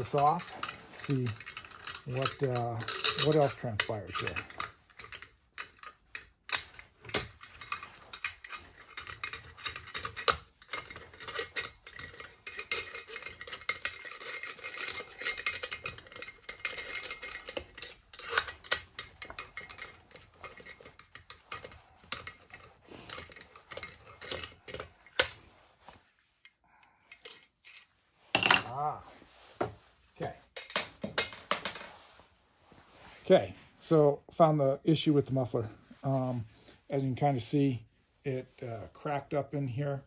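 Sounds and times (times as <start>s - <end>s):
metal tools clicking and scraping: 0.0s - 32.1s.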